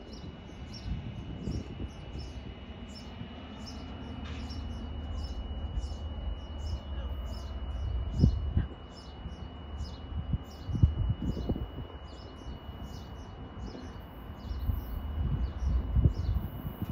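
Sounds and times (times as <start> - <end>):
alarm chirping: 0.0 - 16.9
diesel locomotive rumble: 0.0 - 16.9
steady high tone: 0.0 - 16.9.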